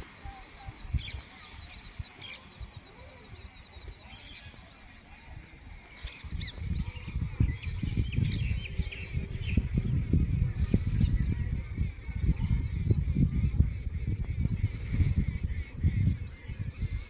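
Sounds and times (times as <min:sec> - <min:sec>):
small birds chirping and twittering: 0:00.0 - 0:17.0.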